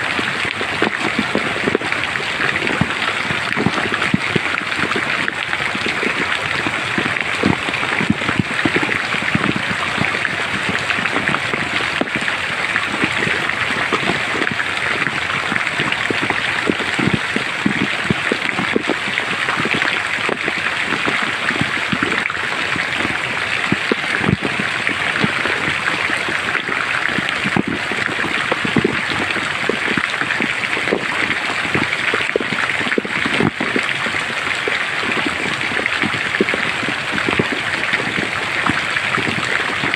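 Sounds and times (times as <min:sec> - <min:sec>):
rain falling in forest: 0:00.0 - 0:39.9
raindrop hits: 0:00.0 - 0:39.9.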